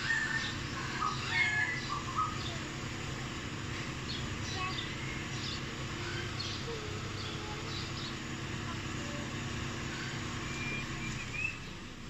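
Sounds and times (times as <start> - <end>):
birds chirping: 0.0 - 12.0
vehicle engine idling: 0.0 - 12.0.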